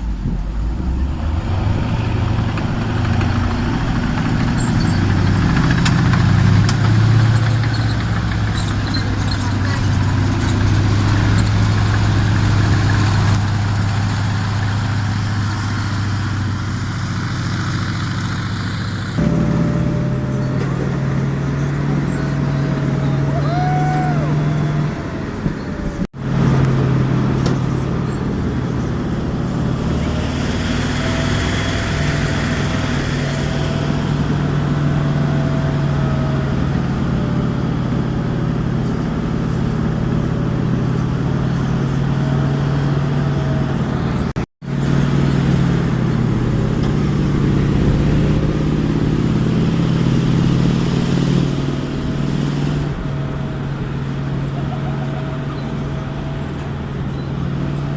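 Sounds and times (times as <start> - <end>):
tank engine running: 0.0 - 57.9.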